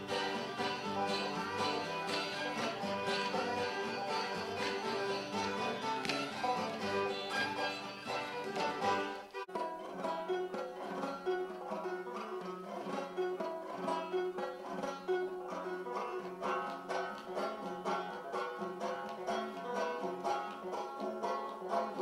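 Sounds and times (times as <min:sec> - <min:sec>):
banjo plucking a tune: 0:00.0 - 0:22.0.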